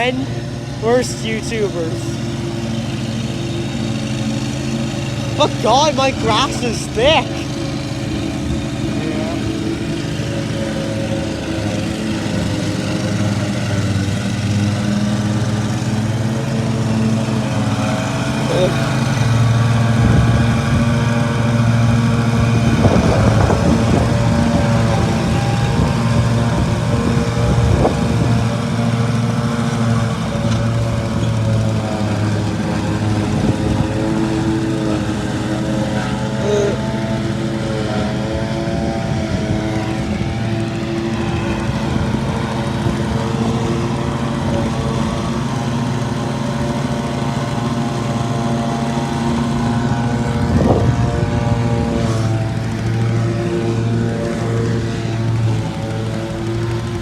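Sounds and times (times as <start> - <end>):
riding lawn mower engine running: 0.0 - 57.0.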